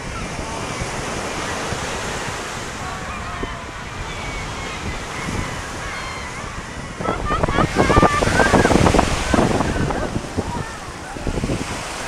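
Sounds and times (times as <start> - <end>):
surf washing onto pebble beach: 0.0 - 12.0
wind on microphone: 0.0 - 12.0.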